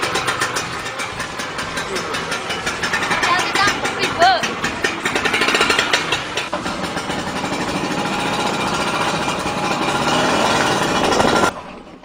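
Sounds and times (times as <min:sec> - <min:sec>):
scooter engine running and stalling: 0:00.0 - 0:12.0.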